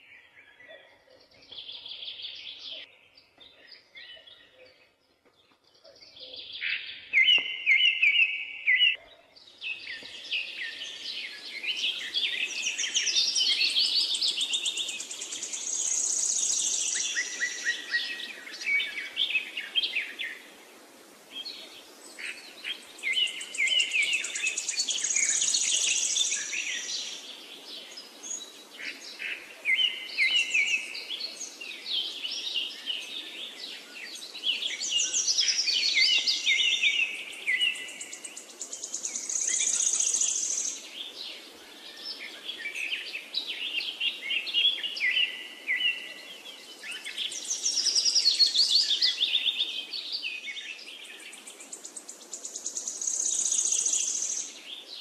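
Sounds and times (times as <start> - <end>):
birds chirping and trilling: 0.0 - 20.6, 21.3 - 55.0.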